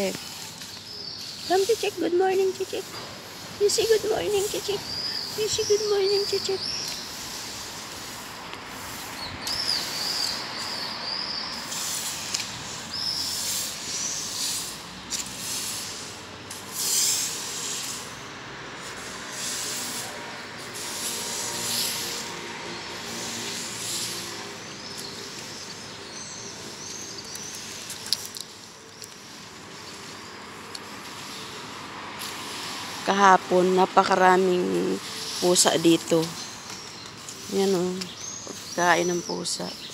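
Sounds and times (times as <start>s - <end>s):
birds chirping: 0.0s - 15.2s, 20.6s - 39.9s
hose spraying water on road: 0.0s - 39.9s.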